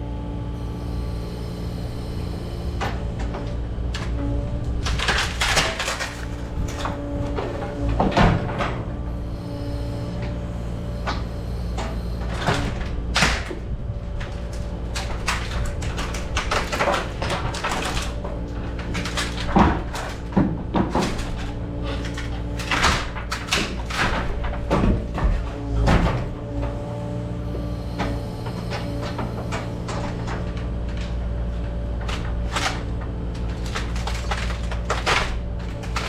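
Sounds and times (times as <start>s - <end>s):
heavy machine engine running: 0.0s - 36.0s
timber and masonry cracking: 2.8s - 9.0s, 9.9s - 36.0s.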